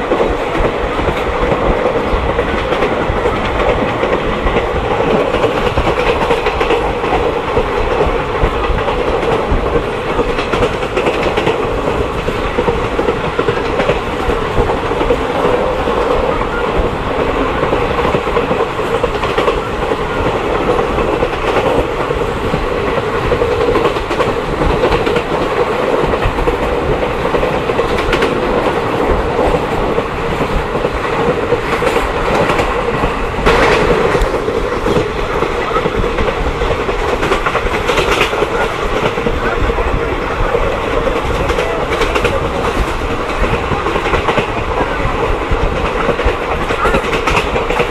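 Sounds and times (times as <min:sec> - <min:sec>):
passenger train running: 0:00.0 - 0:47.9.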